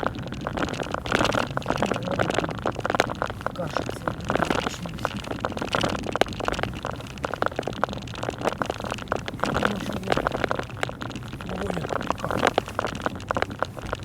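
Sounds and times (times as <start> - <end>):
car driving rumble: 0.0 - 14.0
sleet ticking on a car: 0.0 - 14.0.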